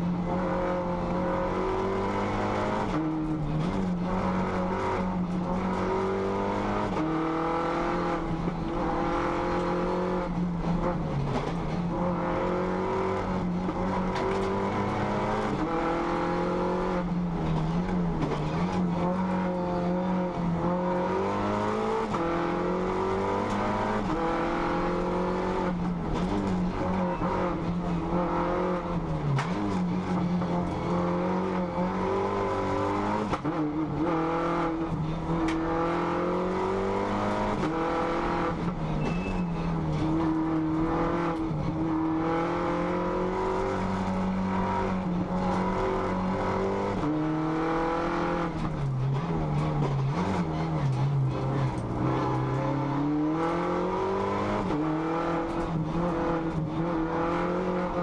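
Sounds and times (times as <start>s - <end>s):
race car engine revving: 0.0s - 58.0s
road and wind noise: 0.0s - 58.0s.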